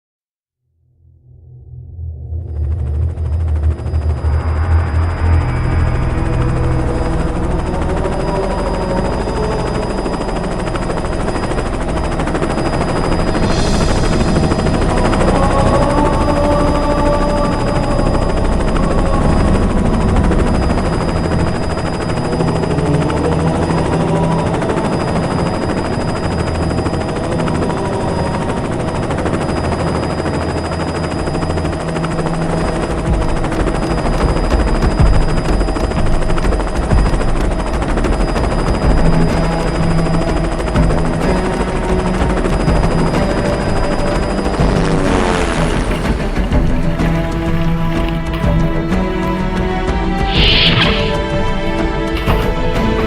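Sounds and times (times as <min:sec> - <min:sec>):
helicopter running: 0:02.4 - 0:53.0.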